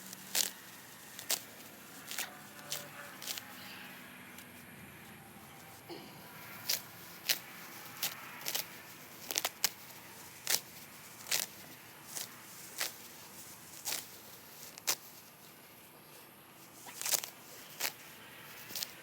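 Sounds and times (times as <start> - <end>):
faint background noise: 0.0 - 19.0
grass pulled up rustling: 0.0 - 19.0.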